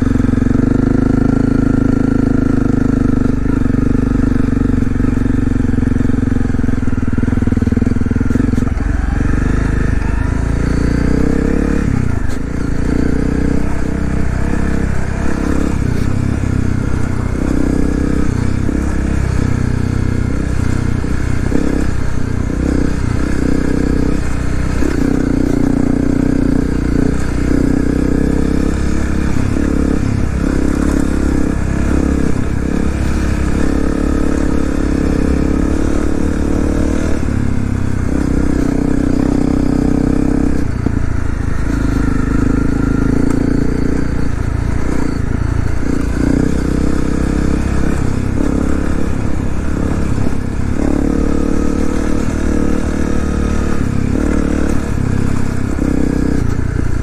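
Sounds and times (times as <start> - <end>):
constant rushing noise: 0.0 - 57.0
motorcycle engine running: 0.0 - 57.0.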